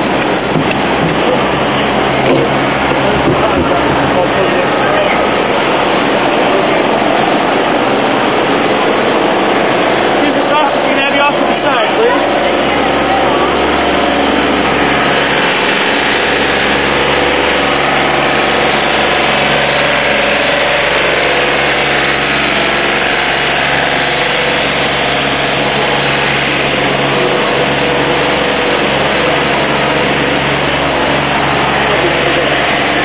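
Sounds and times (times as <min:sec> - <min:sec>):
engine humming steadily: 0:00.0 - 0:33.0.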